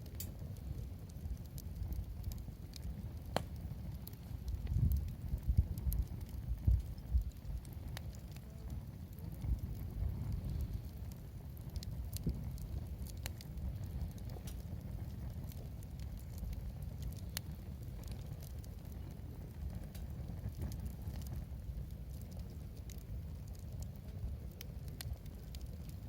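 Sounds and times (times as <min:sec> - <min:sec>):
low steady rumble: 0:00.0 - 0:26.0
sharp pops from fire: 0:00.0 - 0:26.0
wood fire crackling: 0:00.0 - 0:26.0.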